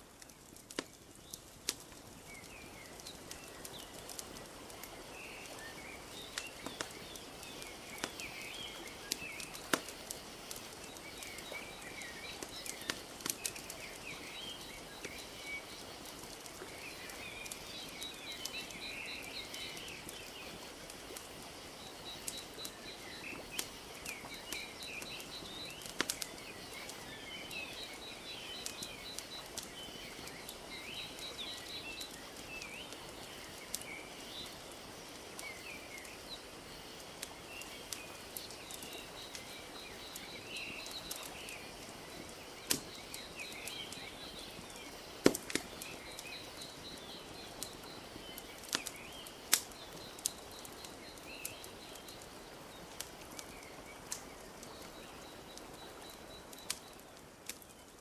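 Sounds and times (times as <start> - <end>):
small birds chirping: 0.0 - 58.0
wood fire crackling: 0.0 - 58.0.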